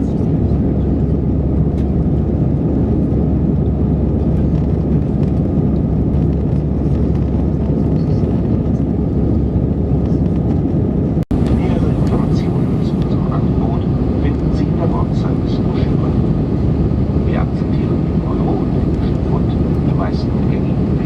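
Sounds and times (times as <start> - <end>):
airplane cabin engine roar: 0.0 - 21.0.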